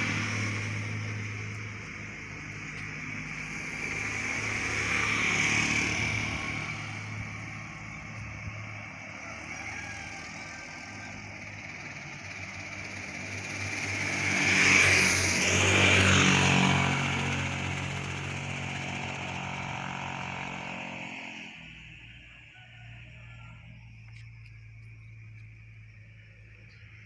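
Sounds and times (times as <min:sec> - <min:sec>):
motorcycle passing by: 0:00.0 - 0:27.0.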